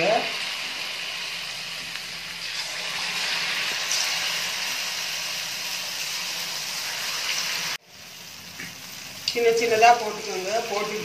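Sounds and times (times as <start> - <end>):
batter frying in sizzling oil: 0.0 - 11.0.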